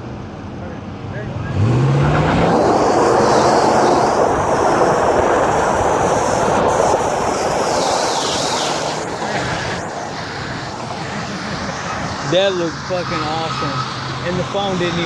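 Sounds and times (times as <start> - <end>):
faint truck engine: 0.0 - 15.0.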